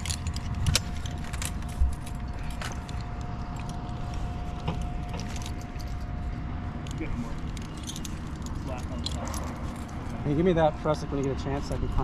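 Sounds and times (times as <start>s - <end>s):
carabiners clinking: 0.0s - 12.0s.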